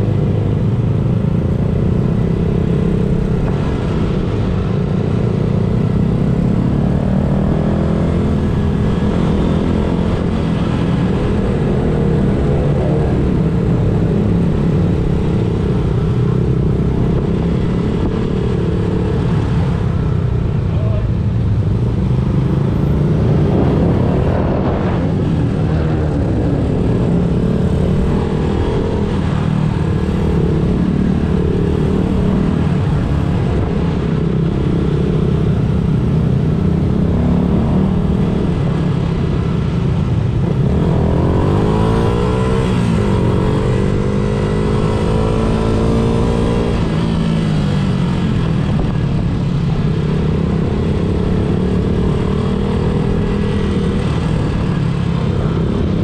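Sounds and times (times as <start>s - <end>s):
vehicle engines running: 0.0s - 56.0s.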